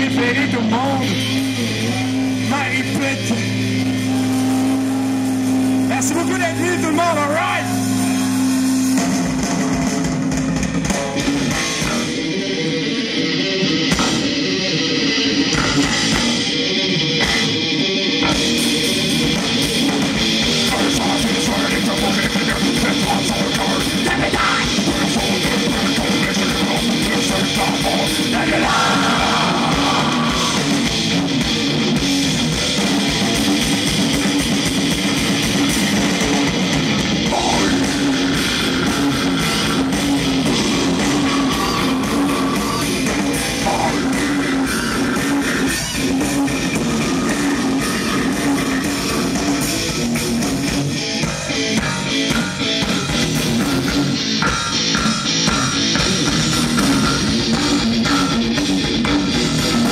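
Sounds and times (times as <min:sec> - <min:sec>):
fast drum kit beat: 0:00.0 - 0:12.3, 0:15.4 - 0:16.6, 0:17.2 - 0:59.9
electric guitars: 0:00.0 - 0:59.9.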